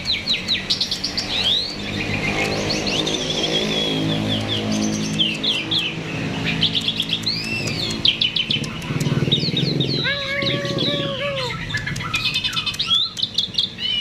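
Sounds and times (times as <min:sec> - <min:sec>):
starling singing: 0:00.0 - 0:14.0.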